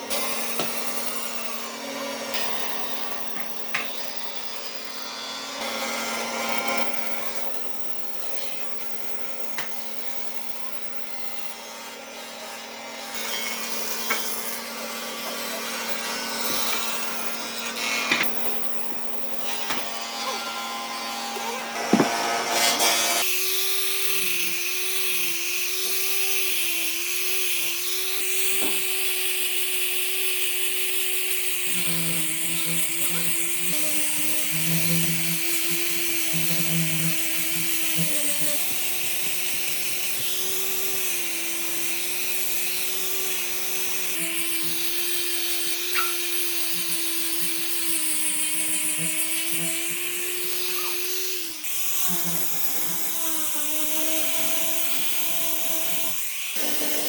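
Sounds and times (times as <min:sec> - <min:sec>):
power tool motor whine: 0:00.0 - 0:57.0.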